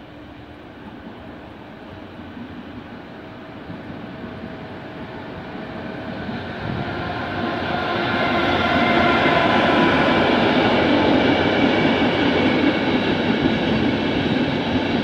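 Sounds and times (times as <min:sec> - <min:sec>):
electric locomotive running with whine: 0:00.0 - 0:15.0.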